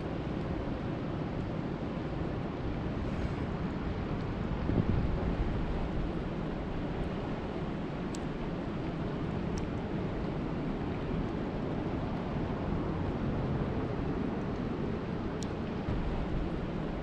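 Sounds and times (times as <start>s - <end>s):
rushing water: 0.0s - 17.0s
wind buffeting microphone: 2.0s - 17.0s.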